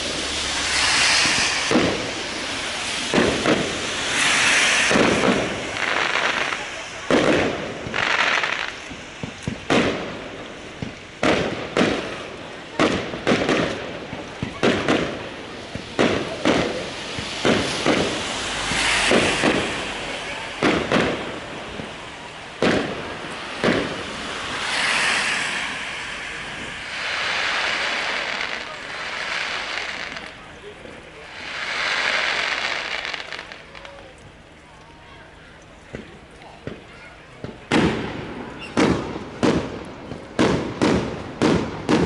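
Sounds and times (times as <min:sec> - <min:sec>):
fireworks bangs: 0:00.0 - 0:34.4, 0:35.9 - 0:42.0
fireworks crackling: 0:00.0 - 0:42.0.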